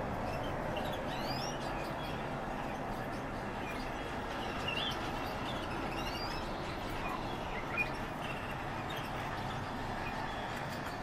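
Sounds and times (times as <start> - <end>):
outdoor background hum: 0.0 - 11.0.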